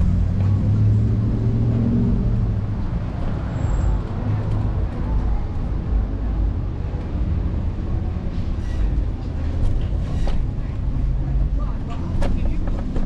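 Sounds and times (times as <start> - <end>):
low road noise rumble: 0.0 - 13.0
vehicles passing: 0.0 - 13.0.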